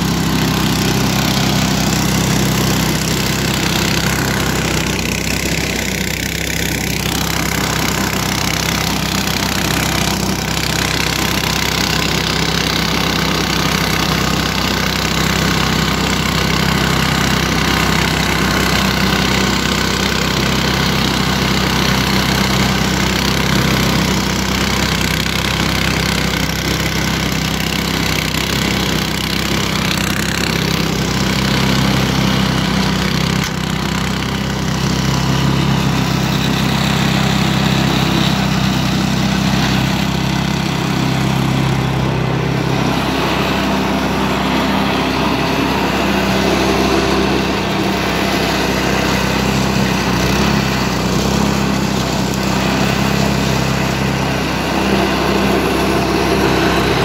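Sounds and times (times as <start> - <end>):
small gasoline engine running: 0.0 - 57.0.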